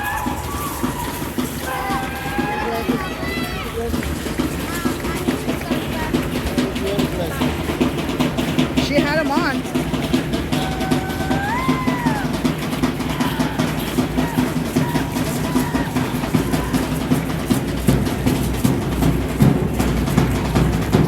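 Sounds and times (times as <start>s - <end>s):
drumming: 0.0s - 21.0s.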